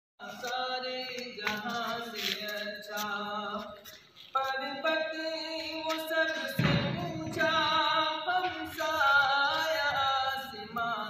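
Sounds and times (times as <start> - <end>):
men singing unaccompanied: 0.2 - 3.8, 4.4 - 11.0.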